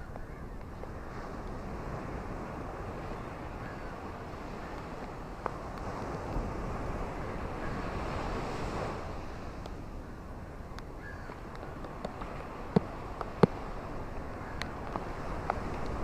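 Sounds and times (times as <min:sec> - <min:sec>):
ocean waves washing on shore: 0:00.0 - 0:16.0.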